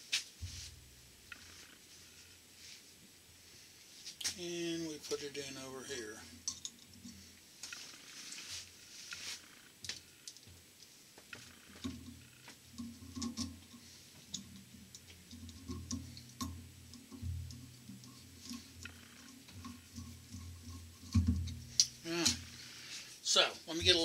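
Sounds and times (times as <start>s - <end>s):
low steady hum: 0.4s - 7.6s, 11.3s - 24.0s.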